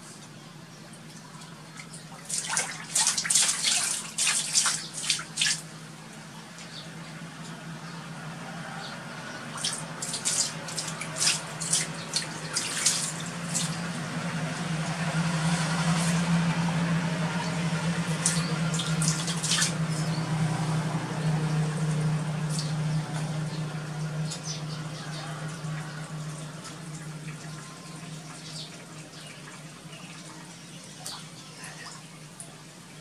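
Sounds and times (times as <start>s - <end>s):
steady low hum: 0.0s - 33.0s
water splashing in a tub: 1.0s - 6.8s, 9.3s - 33.0s.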